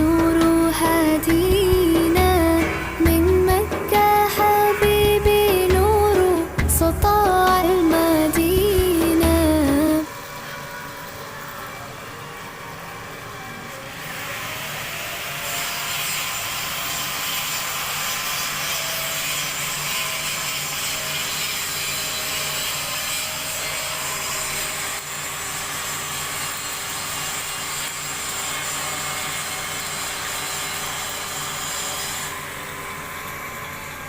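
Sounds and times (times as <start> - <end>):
machine hissing with high whine: 0.0 - 34.0.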